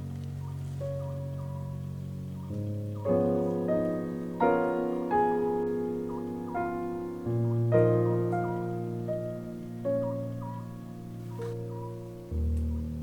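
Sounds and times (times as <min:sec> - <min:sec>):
soft keyboard chords: 0:00.0 - 0:13.0.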